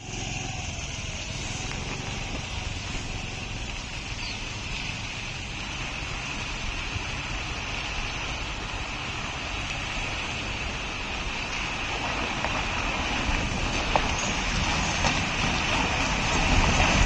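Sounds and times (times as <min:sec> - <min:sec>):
heavy lorry engine and tyres: 0:00.0 - 0:17.0
steady high hiss: 0:00.0 - 0:17.0.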